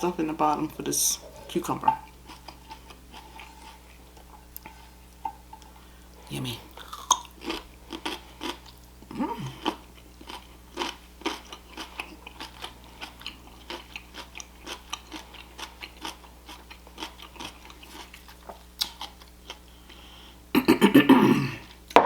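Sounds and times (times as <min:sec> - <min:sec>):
chewing crunchy food: 0:02.0 - 0:20.1.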